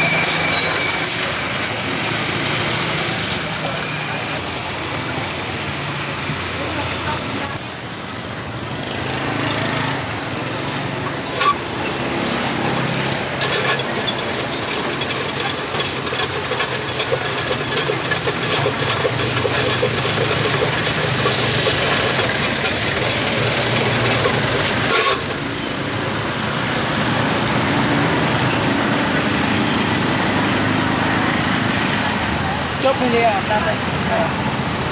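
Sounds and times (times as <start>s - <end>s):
motor vehicles passing: 0.0s - 34.9s.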